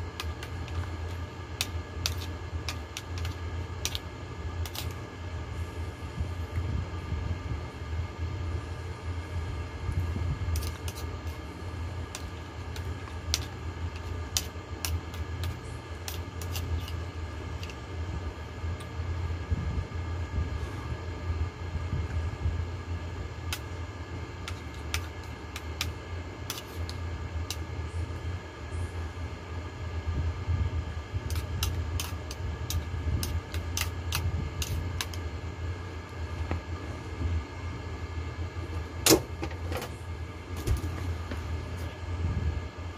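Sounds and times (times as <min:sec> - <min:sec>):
air conditioner humming: 0:00.0 - 0:42.9.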